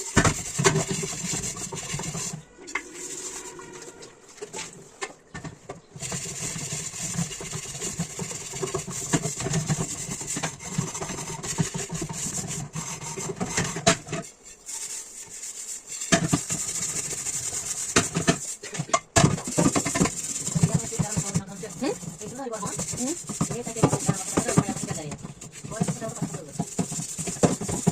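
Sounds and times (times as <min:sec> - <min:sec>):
dishes being scrubbed by hand: 0:00.0 - 0:27.9.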